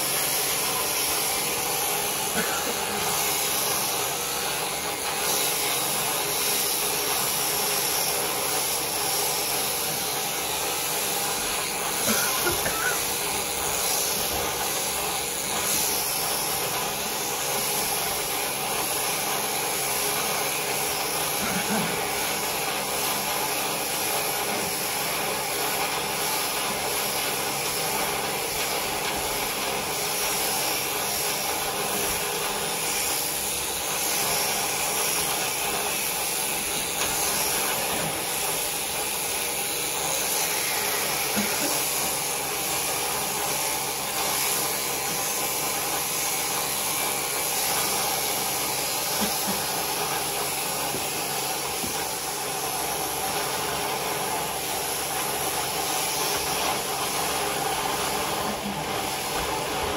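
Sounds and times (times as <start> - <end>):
electric sheep shears running: 0.0 - 59.9.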